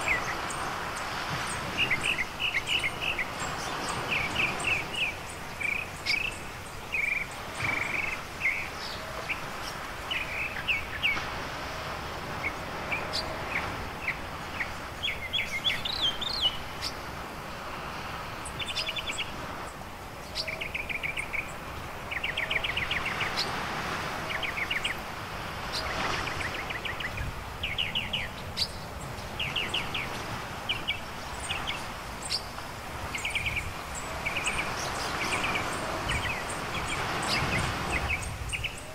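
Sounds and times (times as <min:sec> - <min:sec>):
surf breaking on beach: 0:00.0 - 0:06.6, 0:07.2 - 0:19.7, 0:21.6 - 0:38.6
birds chirping and trilling: 0:00.0 - 0:38.9.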